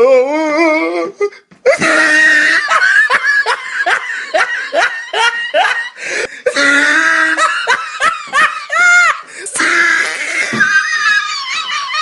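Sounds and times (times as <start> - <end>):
person laughing: 1.6 - 12.0.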